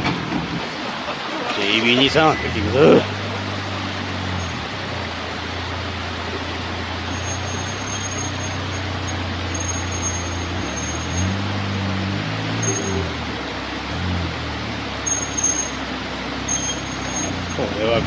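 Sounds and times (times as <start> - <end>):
engine running at low revs: 0.0 - 18.0
rushing water: 0.0 - 18.0.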